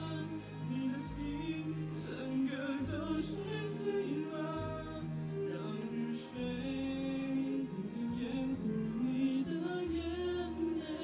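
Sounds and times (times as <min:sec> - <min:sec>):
man singing into a microphone: 0:00.0 - 0:11.0.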